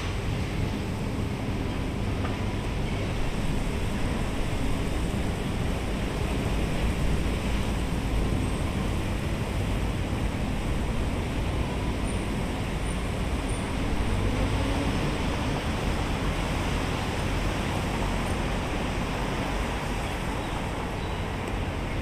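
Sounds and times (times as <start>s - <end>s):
outdoor ambient rumble: 0.0s - 22.0s.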